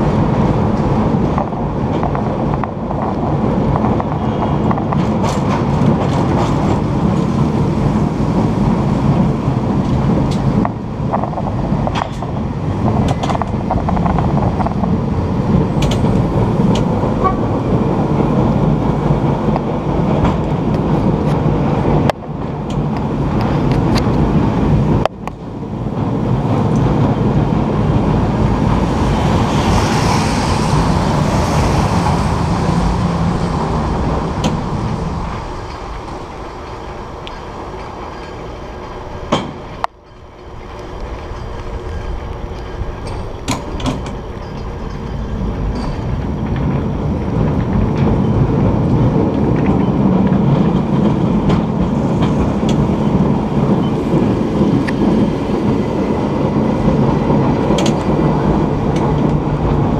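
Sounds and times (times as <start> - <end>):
cable car rumbling on rails: 0.0 - 59.9
clicks and clacks over track: 0.3 - 27.2, 27.9 - 59.9.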